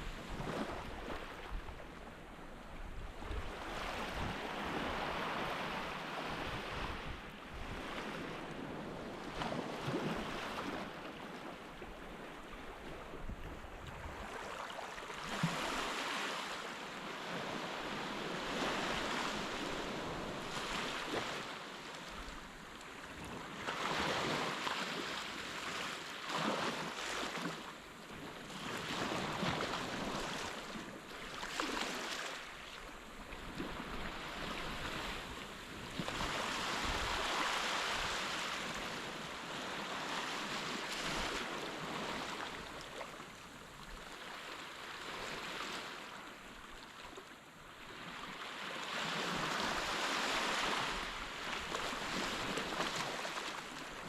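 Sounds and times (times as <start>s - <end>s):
gentle surf on sandy beach: 0.0s - 54.0s.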